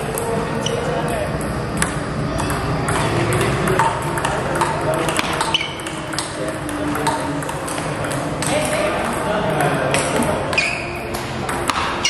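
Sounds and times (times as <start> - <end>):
busy hall background noise: 0.0 - 12.0
table tennis ball clicking: 1.0 - 11.8.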